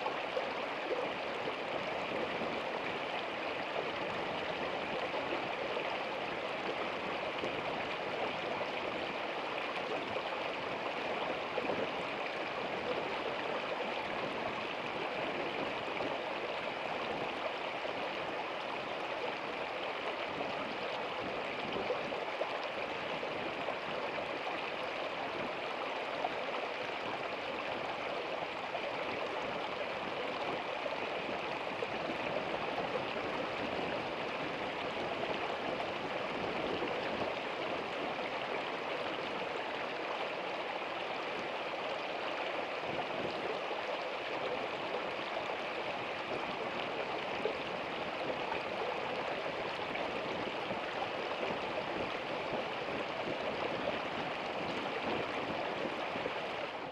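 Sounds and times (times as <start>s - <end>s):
stream flowing over rocks: 0.0s - 56.9s.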